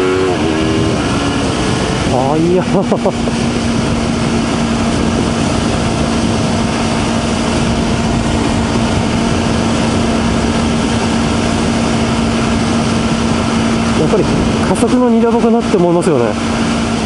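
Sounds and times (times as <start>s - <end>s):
motorcycle engine running: 0.0s - 17.0s
wind noise: 0.0s - 17.0s.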